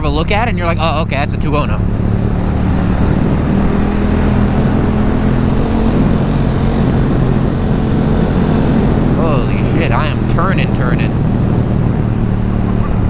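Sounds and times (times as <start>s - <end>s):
motorcycle engine droning: 0.0s - 13.0s
wind rush on microphone: 0.0s - 13.0s.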